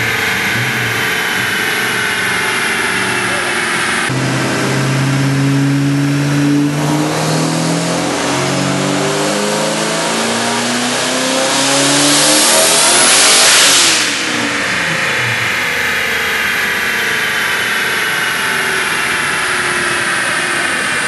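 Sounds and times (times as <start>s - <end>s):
engine revving on a dyno: 0.0s - 21.0s
turbo whine: 0.0s - 21.0s.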